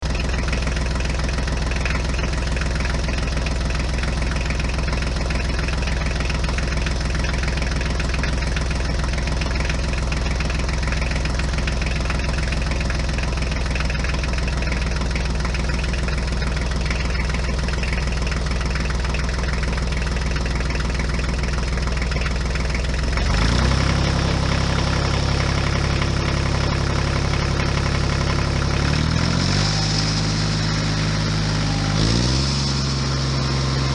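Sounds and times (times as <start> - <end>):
large engine idling and revving: 0.0 - 33.9.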